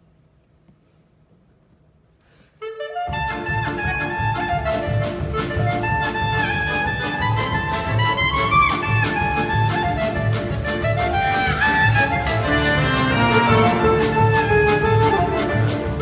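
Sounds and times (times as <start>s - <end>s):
clarinet: 2.5s - 16.0s
saxophone: 2.5s - 16.0s
accordion: 2.6s - 16.0s
percussion: 3.0s - 16.0s
bass: 3.1s - 16.0s.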